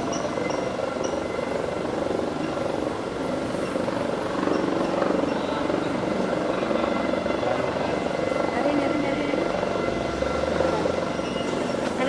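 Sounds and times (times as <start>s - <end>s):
helicopter rotor chop: 0.0s - 12.0s.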